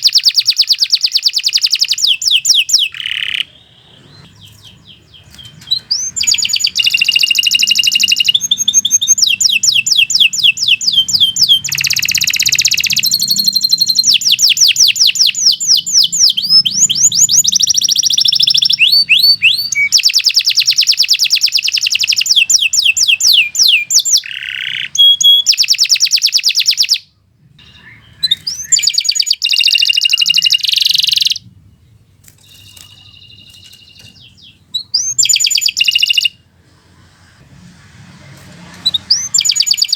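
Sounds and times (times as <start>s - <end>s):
canary singing trills: 0.0s - 36.5s, 38.8s - 39.9s.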